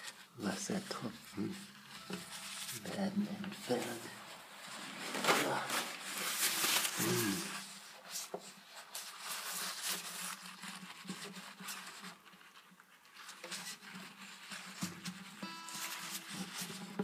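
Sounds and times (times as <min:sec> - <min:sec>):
paper towel rubbing and rustling: 0:00.0 - 0:17.0.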